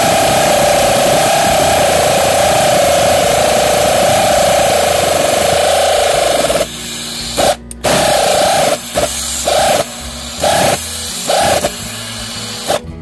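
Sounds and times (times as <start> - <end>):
power ratchet motor whining: 0.0 - 12.9.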